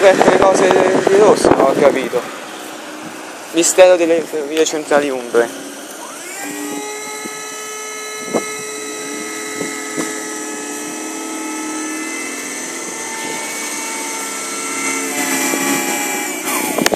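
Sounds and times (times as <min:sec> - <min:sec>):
electric motor whining: 0:00.0 - 0:16.9.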